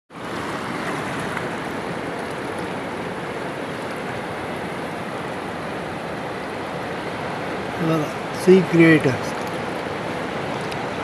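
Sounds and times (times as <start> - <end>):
waves washing over rocks: 0.2 - 11.0.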